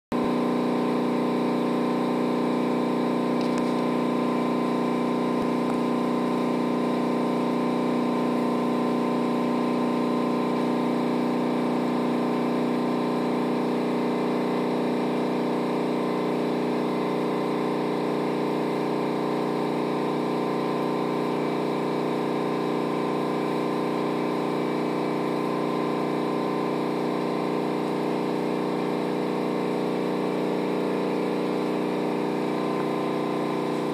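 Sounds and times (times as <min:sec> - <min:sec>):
motor humming: 0:00.2 - 0:33.9.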